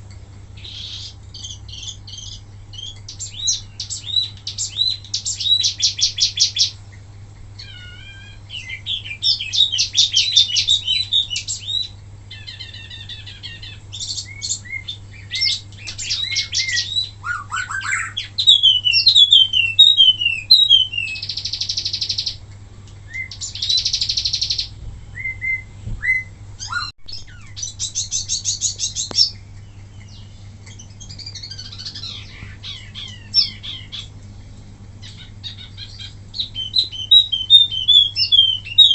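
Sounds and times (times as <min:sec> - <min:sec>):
low hum: 0:00.0 - 0:38.7
songbird singing trills: 0:00.0 - 0:38.9.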